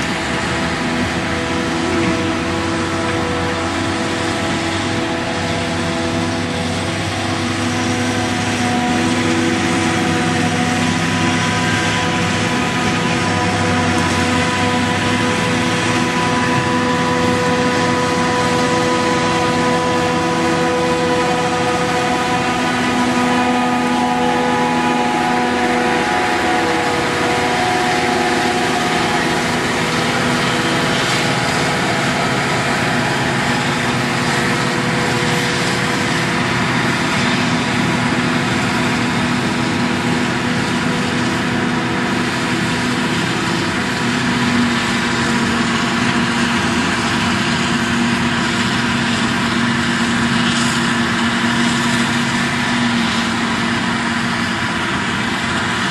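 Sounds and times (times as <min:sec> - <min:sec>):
tractor pulling trailer: 0:00.0 - 0:55.9.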